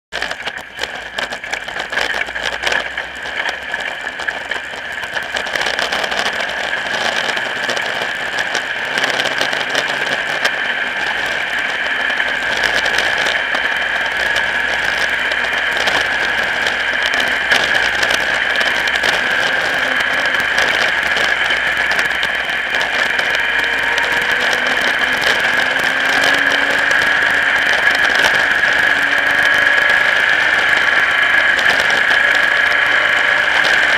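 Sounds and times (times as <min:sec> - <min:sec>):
race car engine running: 0:00.1 - 0:33.9
small rattles and ticks: 0:00.1 - 0:33.9.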